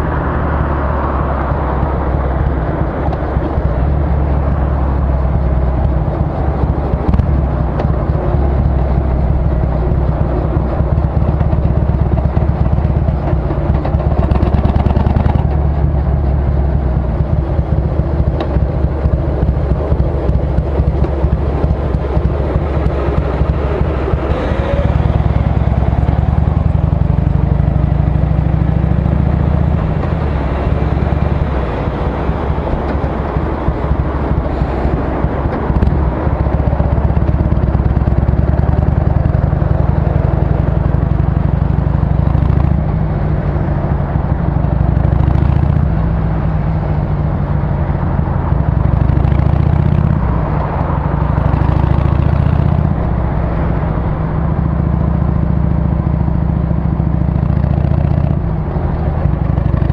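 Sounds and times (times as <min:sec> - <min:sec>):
motorcycle engine on the road: 0:00.0 - 0:59.9.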